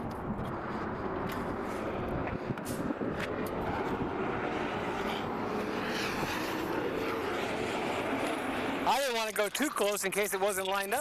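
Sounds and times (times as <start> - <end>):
vehicle engine rumble: 0.0 - 10.2.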